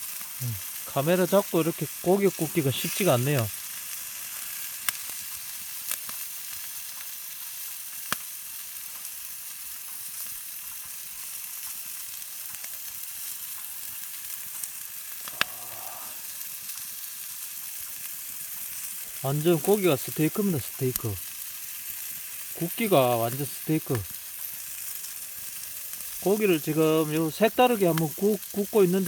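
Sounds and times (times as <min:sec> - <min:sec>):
fire popping: 0:00.0 - 0:29.0
meat sizzling on hot stone: 0:00.0 - 0:29.0.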